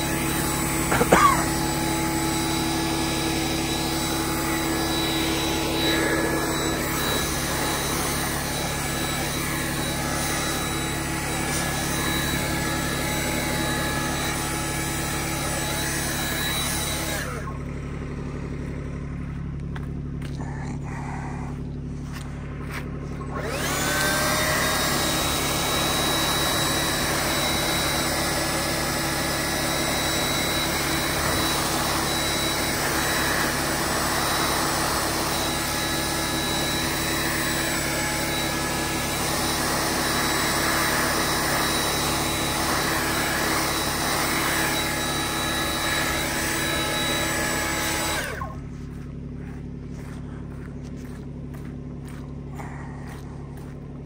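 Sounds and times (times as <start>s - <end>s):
high whine: 0.0s - 54.0s
tractor engine running: 0.0s - 54.0s.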